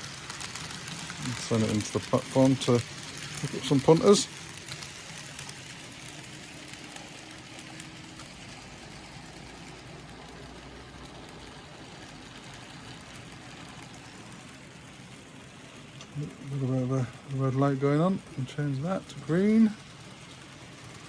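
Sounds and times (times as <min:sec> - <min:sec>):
model trains whirring on track: 0:00.0 - 0:21.0.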